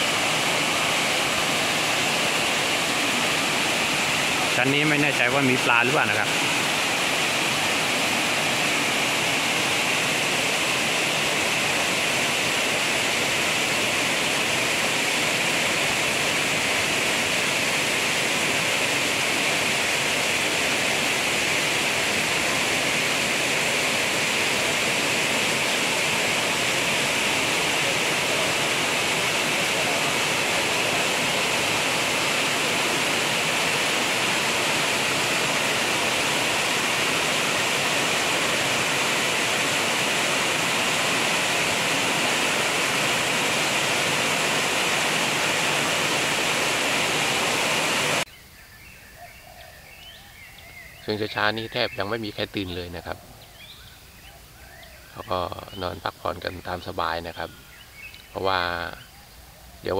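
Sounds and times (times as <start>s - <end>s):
water pouring over rocks: 0.0s - 48.2s.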